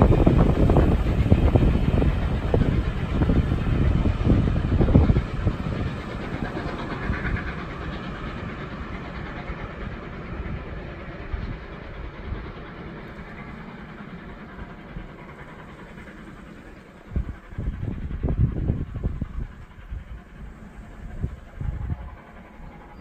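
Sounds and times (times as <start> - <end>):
steam locomotive: 0.0 - 23.0
train coaches rolling on rails: 0.0 - 23.0.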